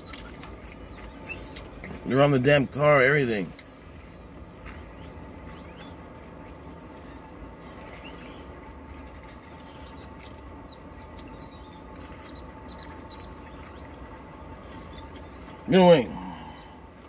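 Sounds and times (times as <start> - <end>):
birds chirping: 0.0 - 17.0
low background hum: 0.0 - 17.0.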